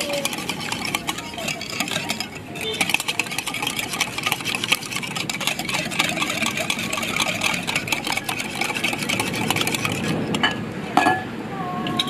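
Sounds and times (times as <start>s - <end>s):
whisk clattering in ceramic bowl: 0.0s - 10.5s.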